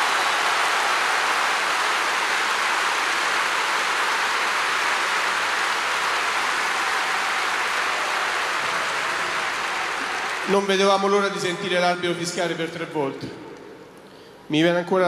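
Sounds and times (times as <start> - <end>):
stadium crowd applauding: 0.0 - 12.9.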